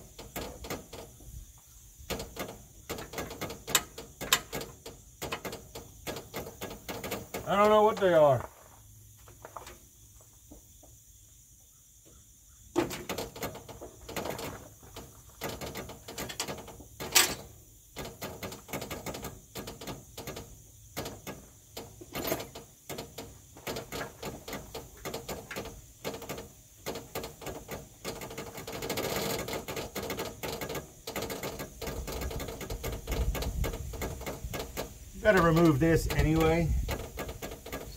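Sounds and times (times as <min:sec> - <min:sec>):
rapid clicking of hand tools: 0:00.0 - 0:01.2, 0:02.0 - 0:08.2, 0:12.8 - 0:37.9
small metal knocks: 0:00.0 - 0:01.3, 0:02.0 - 0:08.3, 0:12.7 - 0:37.9.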